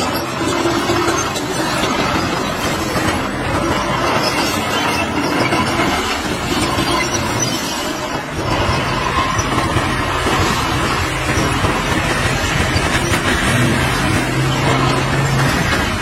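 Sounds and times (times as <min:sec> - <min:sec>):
heavy diesel machinery rumbling: 0:00.0 - 0:16.0.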